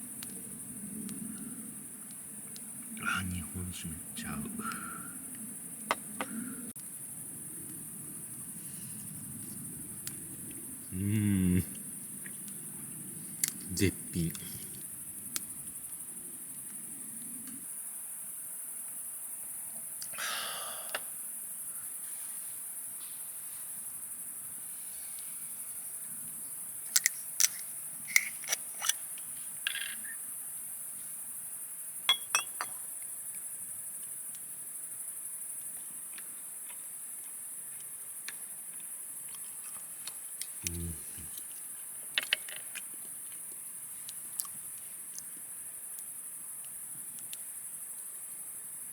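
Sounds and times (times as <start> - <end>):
insect chorus chirring: 0.0 - 48.9.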